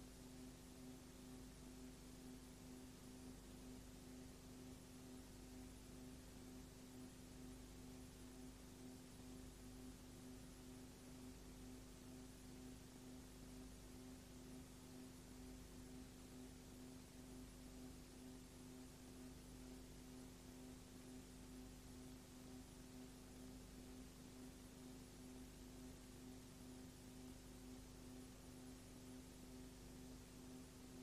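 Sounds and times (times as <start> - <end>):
faint steady hum with hiss: 0.0 - 31.0.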